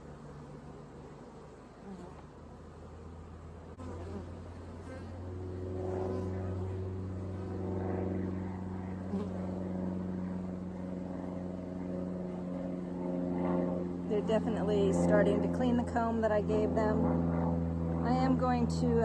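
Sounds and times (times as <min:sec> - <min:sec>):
bee flying past: 0:00.0 - 0:19.0
bees buzzing: 0:00.0 - 0:19.0.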